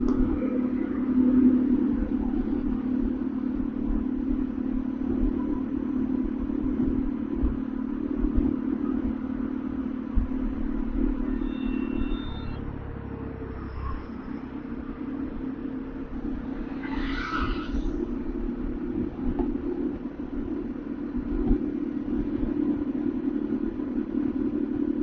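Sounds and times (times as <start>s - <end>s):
motorcycle engine droning: 0.0s - 25.0s.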